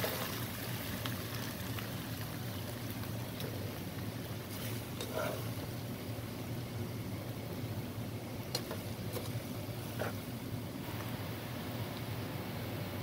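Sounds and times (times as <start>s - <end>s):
pasta sizzling in frying pan: 0.0s - 13.0s.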